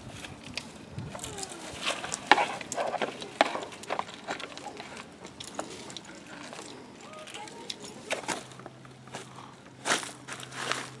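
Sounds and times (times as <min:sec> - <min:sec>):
toy excavator crunching wood chips: 0:00.0 - 0:11.0.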